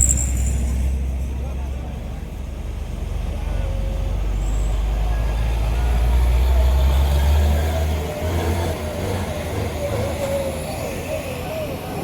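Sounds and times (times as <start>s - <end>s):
heavy truck engine rumbling: 0.0s - 12.0s.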